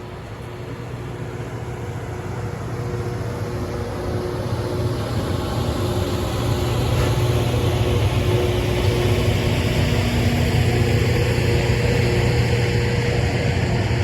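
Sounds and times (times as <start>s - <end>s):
rail grinder diesel engines: 0.0s - 14.0s
steady whining tones: 0.0s - 14.0s.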